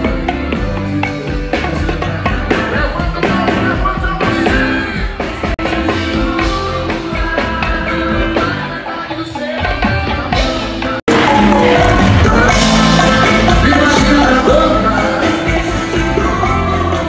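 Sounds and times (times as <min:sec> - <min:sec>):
conga drums: 0:00.0 - 0:17.0
live band music: 0:00.0 - 0:17.0
person singing: 0:00.0 - 0:17.0.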